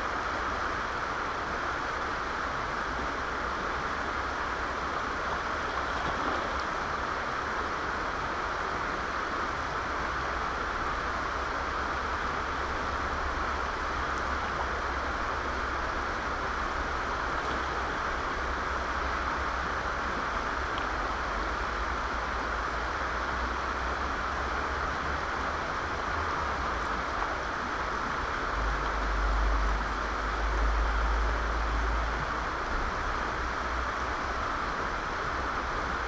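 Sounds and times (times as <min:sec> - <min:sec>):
river rushing over rocks: 0:00.0 - 0:36.0.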